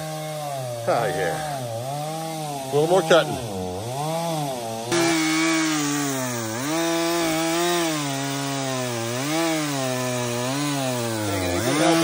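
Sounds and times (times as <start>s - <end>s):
chainsaw cutting tree limbs: 0.0s - 12.0s.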